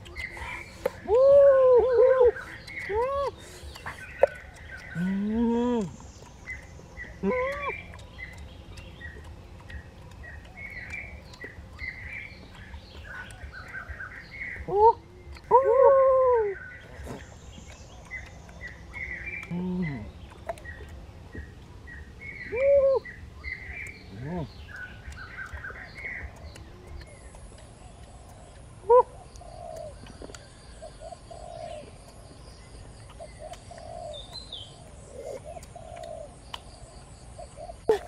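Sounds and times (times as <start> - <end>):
small birds chirping: 0.0 - 38.0
low steady rumble: 1.2 - 37.8.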